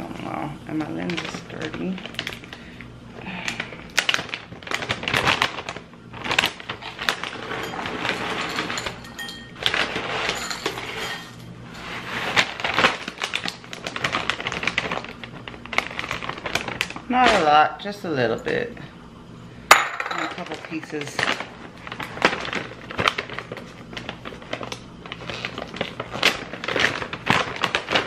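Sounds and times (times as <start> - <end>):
cereal cracking and rustling: 0.8 - 17.6, 20.0 - 28.0.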